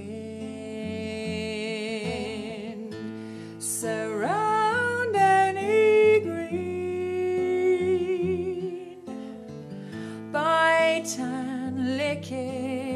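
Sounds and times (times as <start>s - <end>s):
woman singing with vibrato: 0.0s - 9.2s, 10.2s - 12.9s
acoustic guitar: 0.0s - 12.9s.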